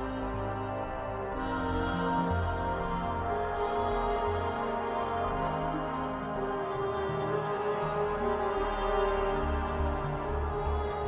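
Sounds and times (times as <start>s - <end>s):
slow new-age music: 0.0s - 11.0s.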